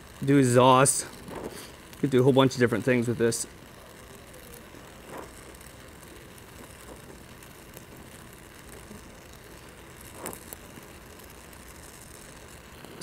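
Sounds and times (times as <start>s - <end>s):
welding torch hissing: 0.0s - 13.0s.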